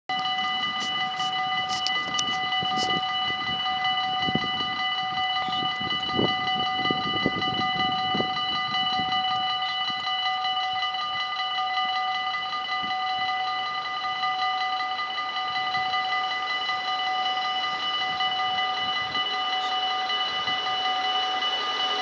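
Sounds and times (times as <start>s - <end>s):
high ringing tones: 0.1s - 22.0s.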